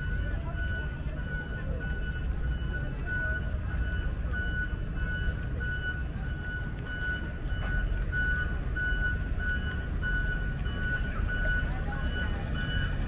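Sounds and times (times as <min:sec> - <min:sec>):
diesel machinery rumble: 0:00.0 - 0:13.0
reversing alarm beeping: 0:00.0 - 0:13.0.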